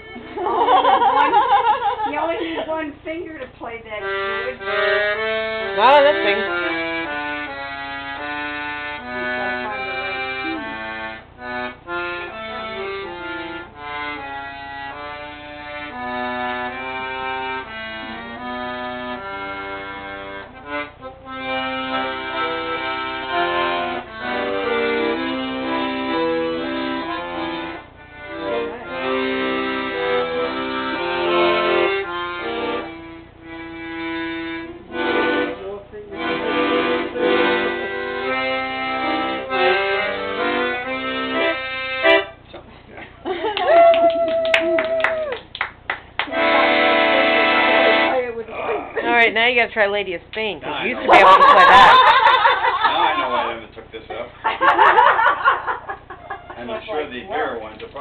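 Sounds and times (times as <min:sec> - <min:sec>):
piano accordion playing tune: 0:00.0 - 0:42.4, 0:46.2 - 0:48.4, 0:49.0 - 0:49.6, 0:51.0 - 0:58.0.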